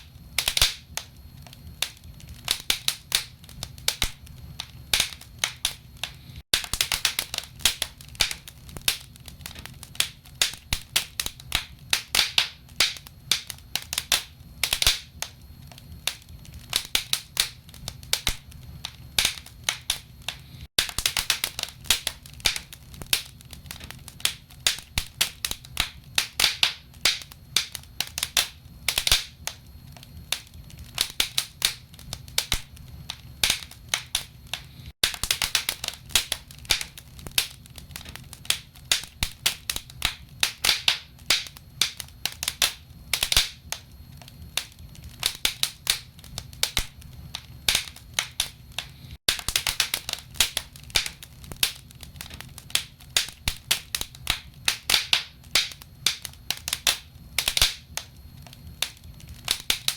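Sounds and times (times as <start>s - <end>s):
faint low fire rumble: 0.0s - 59.9s
logs crackling and popping: 0.2s - 59.9s.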